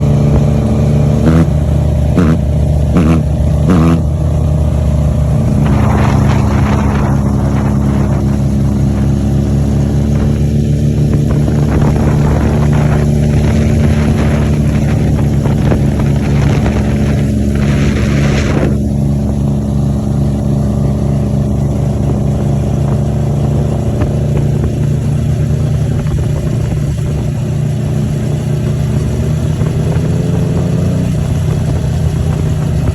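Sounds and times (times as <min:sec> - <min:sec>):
motorcycle engine idling and revving: 0:00.0 - 0:32.9.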